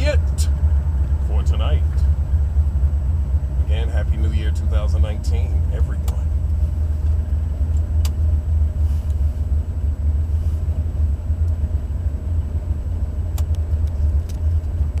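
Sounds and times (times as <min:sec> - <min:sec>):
engine deep low rumble: 0:00.0 - 0:15.0.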